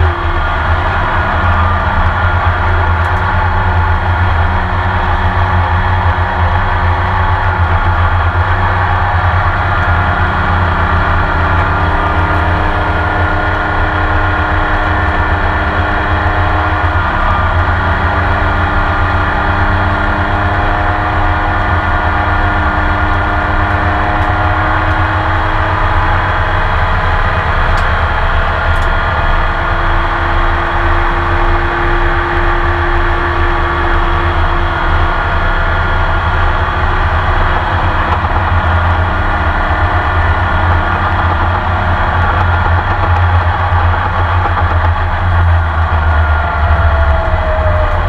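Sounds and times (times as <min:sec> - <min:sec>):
race car engine running: 0:00.0 - 0:48.0.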